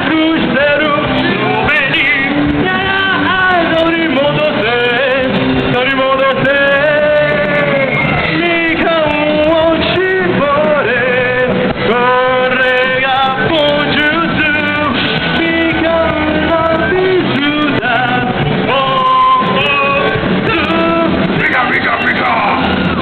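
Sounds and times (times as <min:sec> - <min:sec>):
person singing: 0:00.0 - 0:21.9
live rock band playing: 0:00.0 - 0:23.0.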